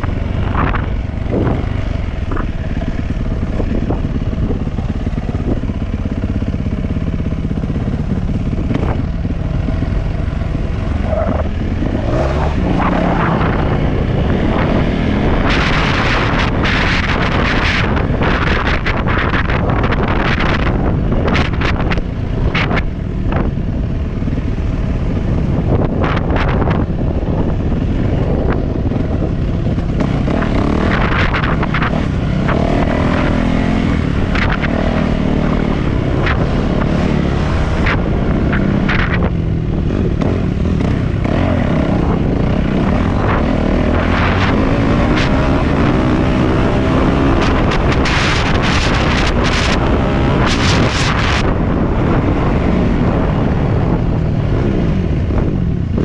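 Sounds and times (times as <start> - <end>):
dirt bike engine revving: 0.0 - 22.8, 29.9 - 54.0.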